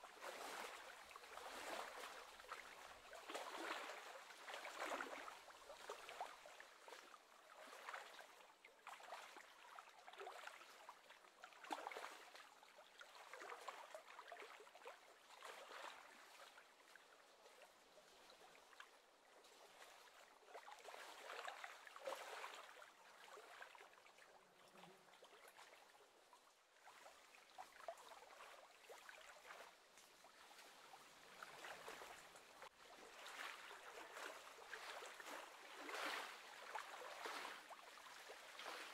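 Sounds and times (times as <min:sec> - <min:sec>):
small waves lapping at lake edge: 0:00.0 - 0:38.9.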